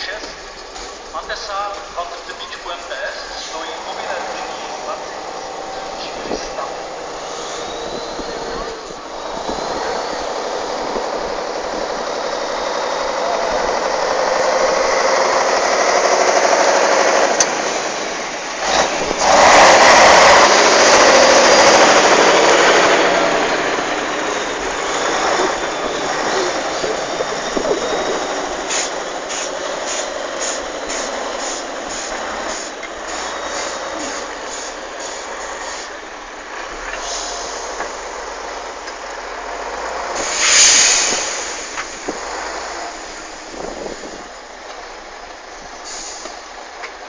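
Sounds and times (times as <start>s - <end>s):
heavy truck engine working hard: 0.0s - 47.0s.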